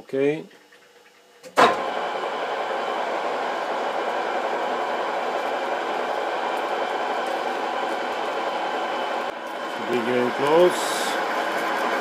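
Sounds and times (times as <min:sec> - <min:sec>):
metal lathe whirring: 0:01.8 - 0:12.0.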